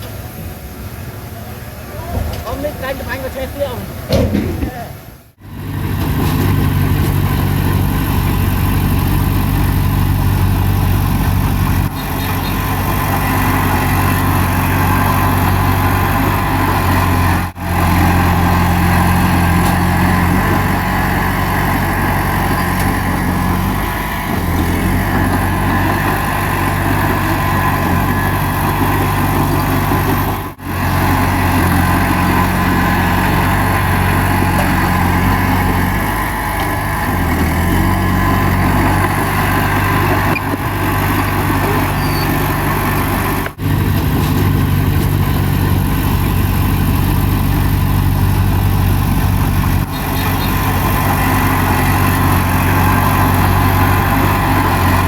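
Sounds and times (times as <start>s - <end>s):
heavy machine diesel engine running: 0.0s - 55.0s.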